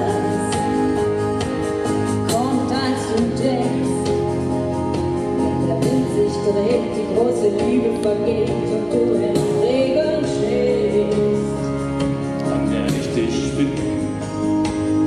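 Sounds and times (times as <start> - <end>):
sustained instrumental chords: 0.0 - 15.0.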